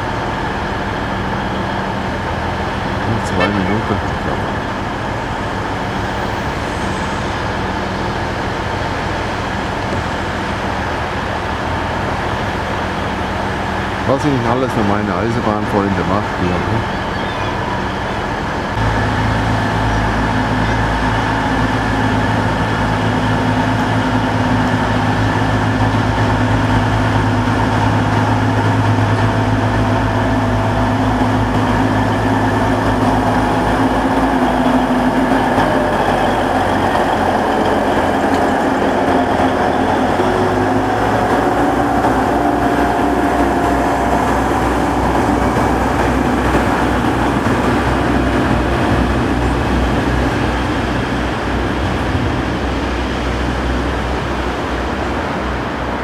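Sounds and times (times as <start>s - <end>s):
train engine humming: 0.0s - 56.0s.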